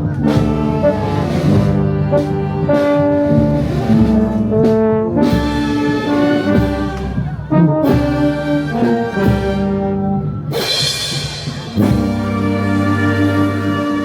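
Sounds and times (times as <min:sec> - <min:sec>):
brass band playing held chords: 0:00.0 - 0:14.0.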